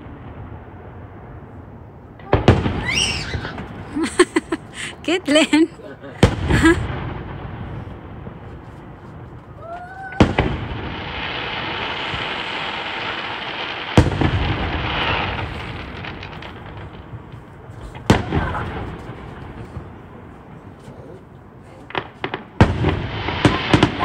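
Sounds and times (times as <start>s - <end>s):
fireworks booming: 0.0s - 24.0s
fireworks hissing: 2.2s - 24.0s.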